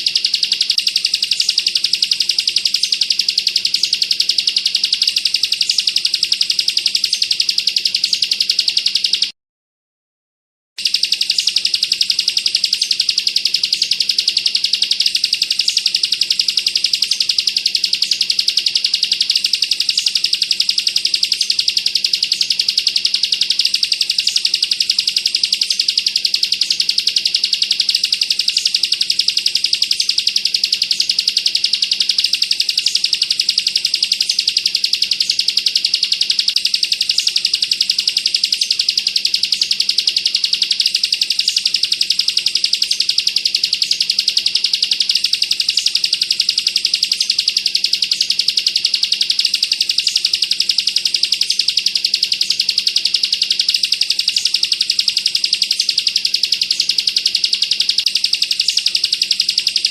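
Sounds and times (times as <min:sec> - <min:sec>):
bird trilling rapidly: 0:00.0 - 0:09.3, 0:10.8 - 0:59.9.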